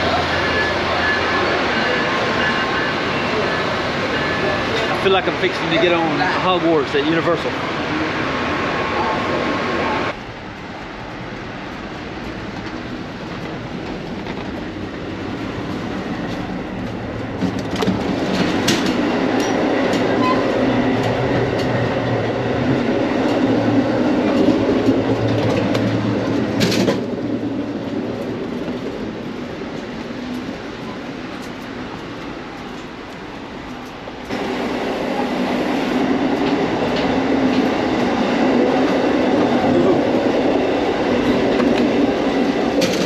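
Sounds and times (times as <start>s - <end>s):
train wheel and track rumble: 0.0s - 43.0s.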